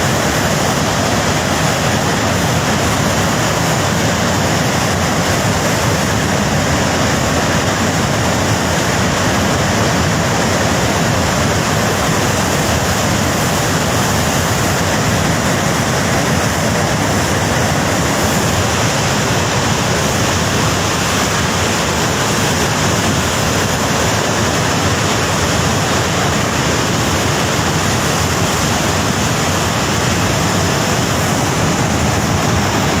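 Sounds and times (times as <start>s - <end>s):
water rushing in a torrent: 0.0s - 33.0s.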